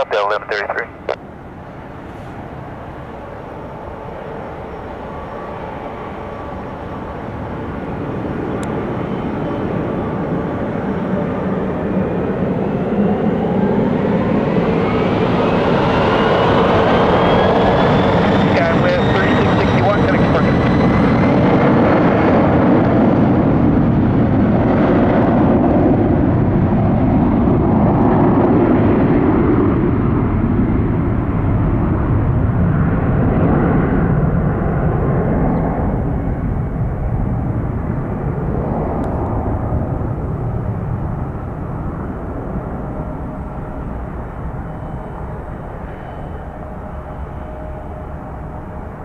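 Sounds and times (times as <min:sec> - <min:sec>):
high jet engine whine: 0:00.0 - 0:49.0
jet engines rumbling: 0:00.0 - 0:49.0.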